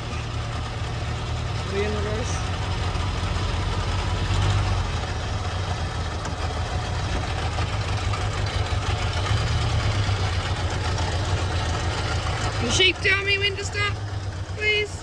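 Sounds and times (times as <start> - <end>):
truck engine idling low: 0.0 - 15.0.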